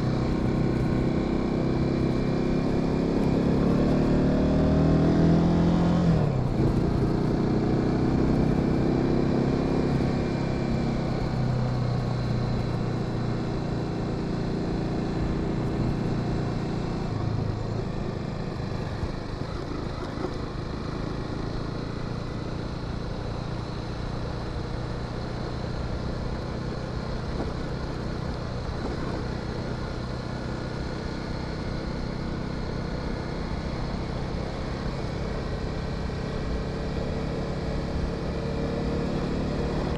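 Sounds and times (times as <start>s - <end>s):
motorcycle engine decelerating: 0.0s - 39.9s
road and wind noise: 0.0s - 39.9s.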